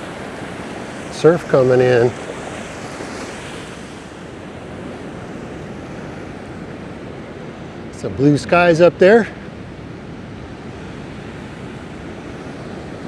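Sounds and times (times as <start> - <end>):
waves breaking on sand beach: 0.0 - 13.0.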